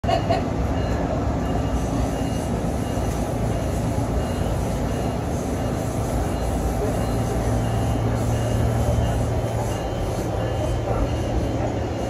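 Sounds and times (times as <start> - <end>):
train running noise inside car: 0.0 - 12.0.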